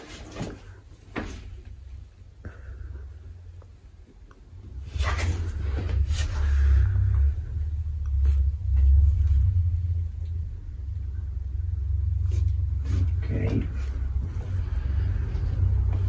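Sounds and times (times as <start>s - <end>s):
steady low rumble: 0.5s - 16.0s.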